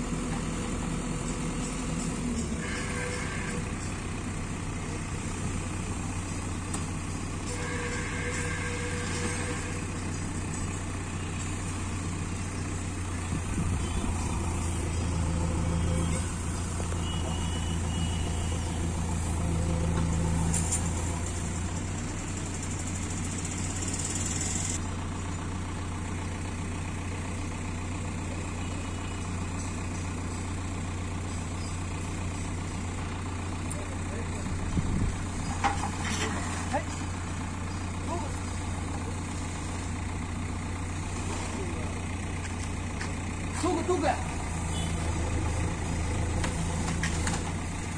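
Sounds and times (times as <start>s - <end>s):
diesel engines idling: 0.0s - 47.9s.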